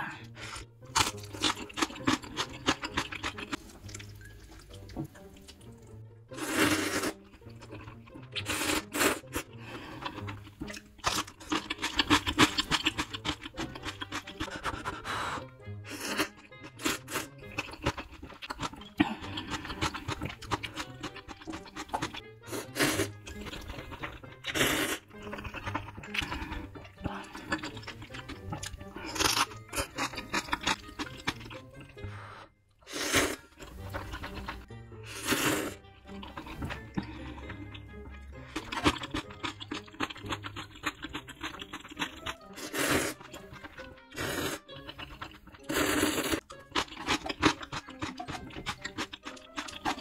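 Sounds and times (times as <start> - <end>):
background music: 0.0 - 50.0
noodle slurping: 0.4 - 37.8, 38.4 - 50.0
wet chewing and crunching: 0.6 - 32.0, 32.8 - 50.0.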